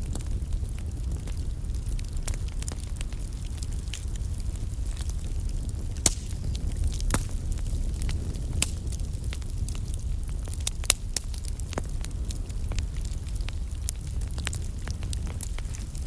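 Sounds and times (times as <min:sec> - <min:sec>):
logs crackling and popping: 0:00.0 - 0:16.0
wood fire rumbling: 0:00.0 - 0:16.0.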